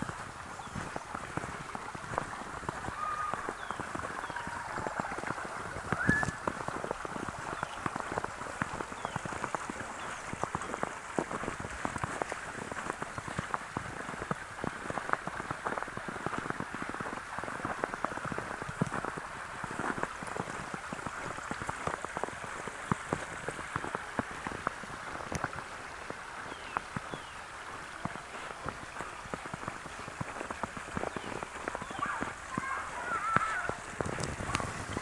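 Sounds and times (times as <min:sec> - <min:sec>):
brook running: 0:00.0 - 0:35.0
water splashes and plinks: 0:00.0 - 0:35.0.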